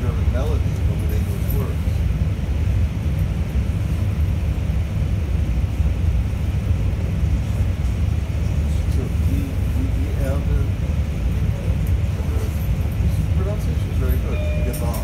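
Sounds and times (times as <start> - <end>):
train coach ventilation: 0.0 - 15.0.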